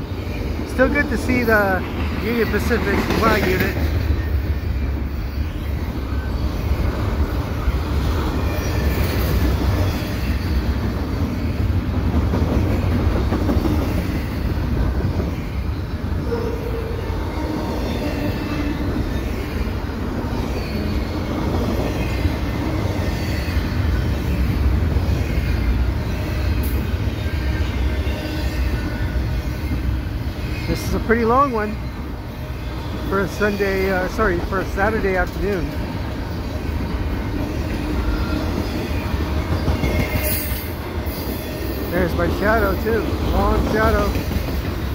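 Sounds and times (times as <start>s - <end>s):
steel wheels rumbling on rail: 0.0s - 44.9s.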